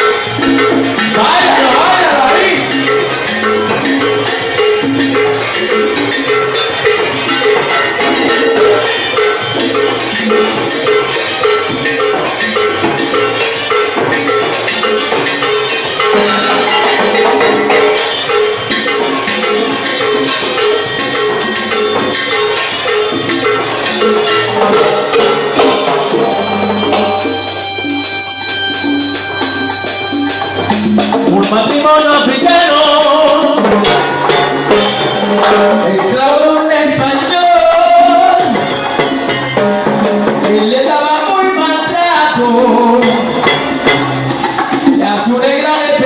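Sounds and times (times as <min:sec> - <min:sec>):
reedy wind instrument chords: 0:00.0 - 0:45.0
cowbell struck on a beat: 0:00.0 - 0:46.0
latin dance band playing: 0:00.0 - 0:46.0.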